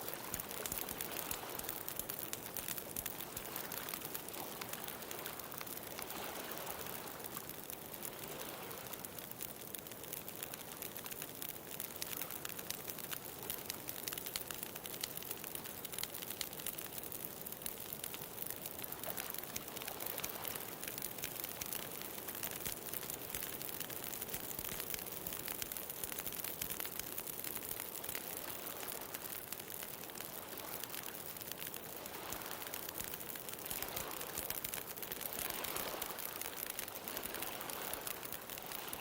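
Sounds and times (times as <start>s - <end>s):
bonfire crackling and popping: 0.0s - 39.0s.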